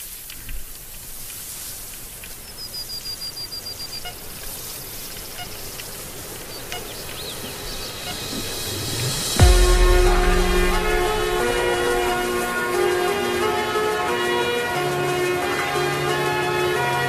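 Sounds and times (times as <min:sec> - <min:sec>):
muffled underwater hiss: 0:00.0 - 0:13.8.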